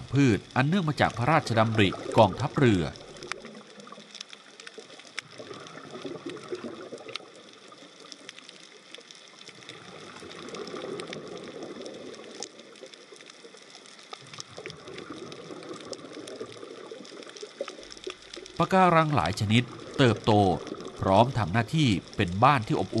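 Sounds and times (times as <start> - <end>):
sharp clicks and crackles: 0.0 - 23.0
underwater moving water: 0.0 - 23.0.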